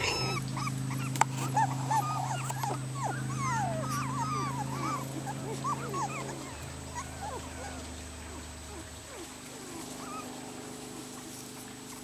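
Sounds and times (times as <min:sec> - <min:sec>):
puppies whimpering and yipping: 0:00.0 - 0:12.0
steady low hum: 0:00.0 - 0:12.0.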